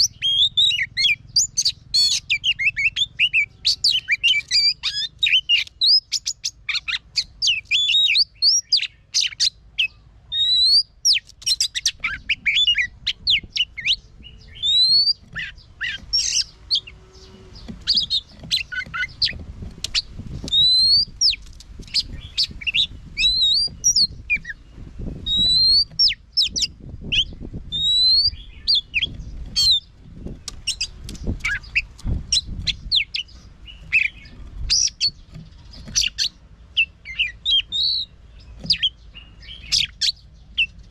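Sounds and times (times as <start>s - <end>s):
bird singing whistled song: 0.0s - 40.9s.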